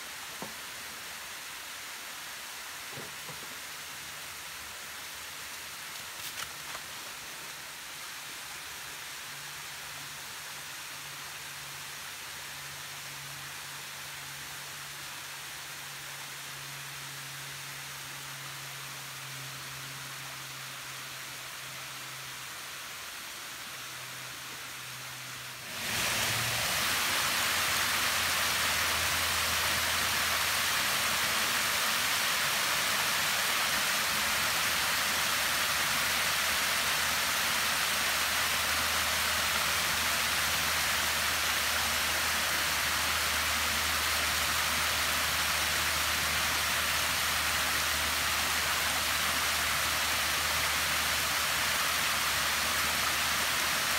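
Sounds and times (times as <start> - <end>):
creek water rushing over rocks: 0.0 - 14.9, 22.2 - 53.9.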